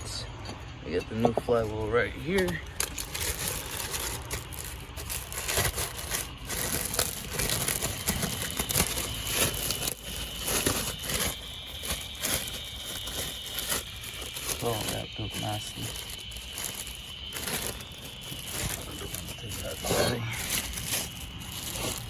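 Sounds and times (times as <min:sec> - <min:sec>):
packaging crinkling and tearing: 0:01.5 - 0:22.0.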